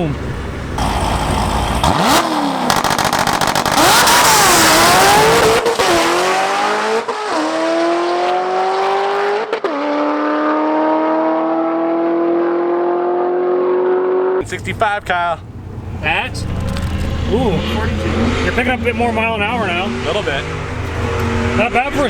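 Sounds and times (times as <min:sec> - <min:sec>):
race car accelerating: 0:00.0 - 0:22.0.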